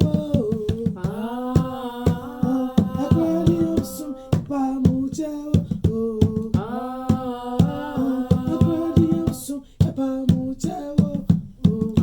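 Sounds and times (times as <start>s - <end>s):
person singing a chant: 0.0s - 12.0s
steady drum beat: 0.0s - 12.0s.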